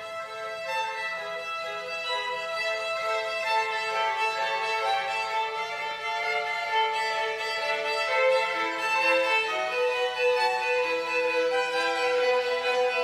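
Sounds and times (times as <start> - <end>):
violin melody: 0.0 - 13.0.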